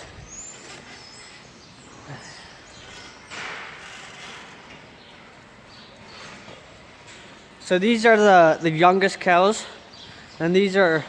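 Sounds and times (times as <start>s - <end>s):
barn background noise: 0.0s - 11.0s.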